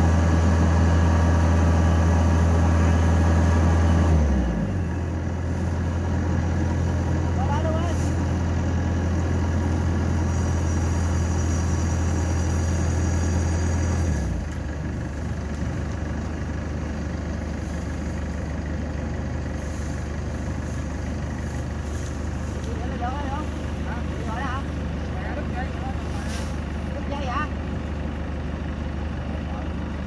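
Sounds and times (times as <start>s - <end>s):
harvester engine humming: 0.0s - 30.0s.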